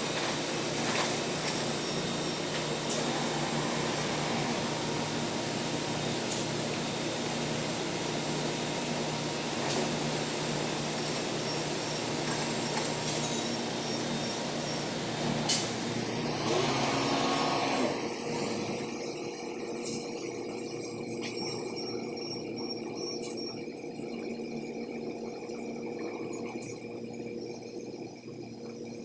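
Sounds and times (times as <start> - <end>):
mechanical running noise: 0.0 - 29.0.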